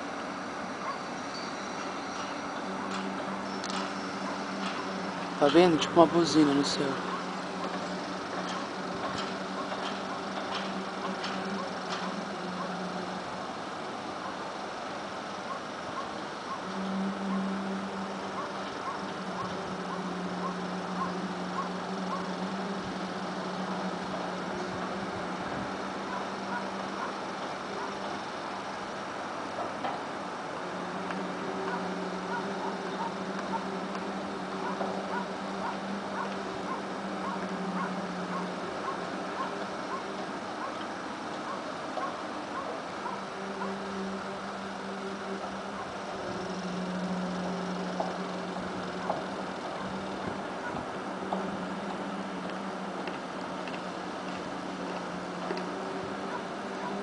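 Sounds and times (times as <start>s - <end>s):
background hum: 0.0s - 57.0s
low horn-like drone: 0.0s - 57.0s.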